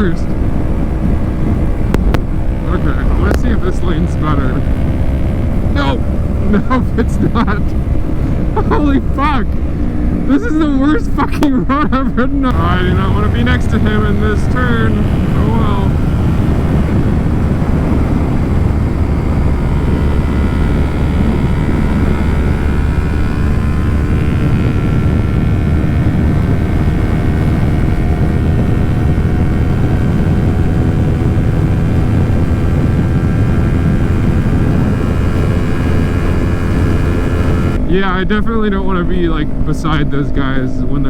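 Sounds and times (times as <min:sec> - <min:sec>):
wind noise: 0:00.0 - 0:10.3, 0:12.5 - 0:38.3
motorcycle engine cruising: 0:00.0 - 0:11.2, 0:12.4 - 0:40.7
road noise: 0:00.0 - 0:41.0.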